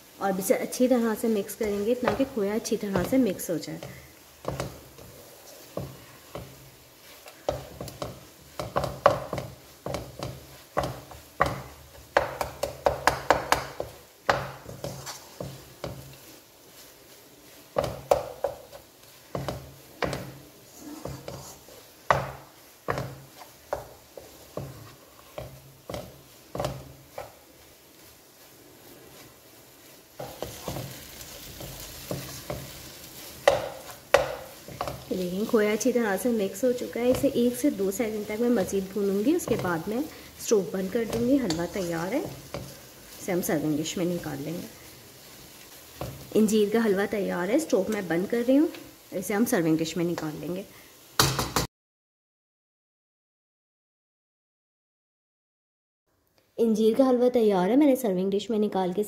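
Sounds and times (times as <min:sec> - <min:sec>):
wooden spatula scraping a pan: 0:00.0 - 0:51.7.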